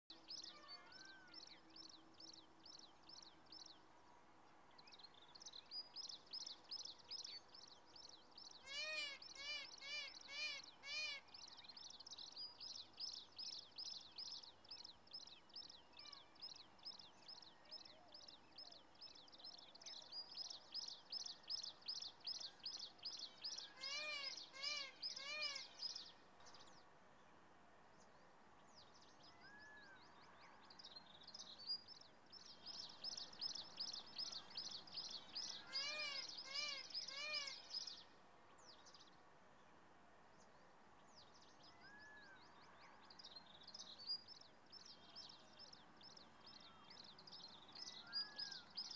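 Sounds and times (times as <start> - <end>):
birds chirping faintly: 0.1 - 48.9.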